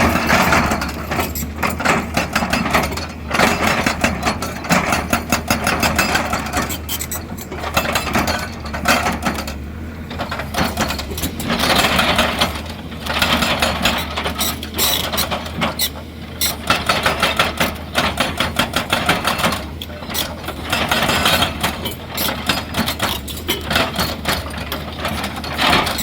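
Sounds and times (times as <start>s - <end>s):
excavator diesel engine running: 0.0s - 26.0s
rattling clatter and knocks: 0.0s - 26.0s.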